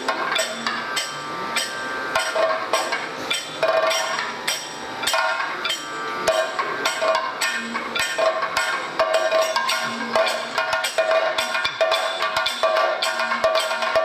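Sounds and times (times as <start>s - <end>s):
metal hand cymbals ringing: 0.0s - 14.0s.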